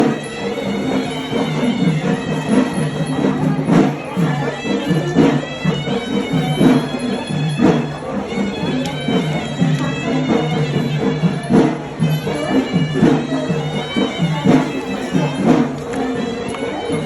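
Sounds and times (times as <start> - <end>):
drum strokes: 0.0 - 17.0
reedy droning wind instrument: 0.0 - 17.0.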